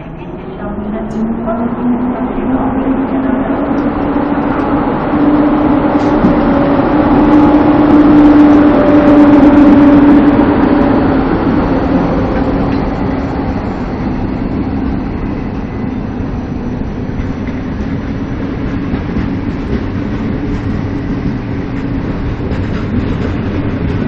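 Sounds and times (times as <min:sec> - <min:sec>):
electric locomotive humming: 0:00.0 - 0:24.0
train coaches rolling: 0:00.0 - 0:24.0.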